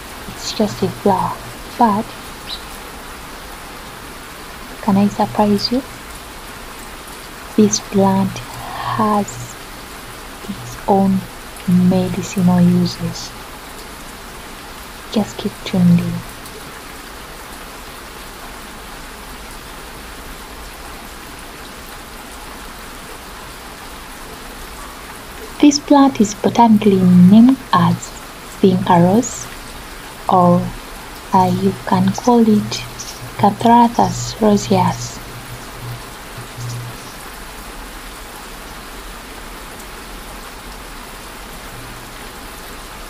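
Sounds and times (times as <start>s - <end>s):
steady background hiss: 0.0s - 43.0s.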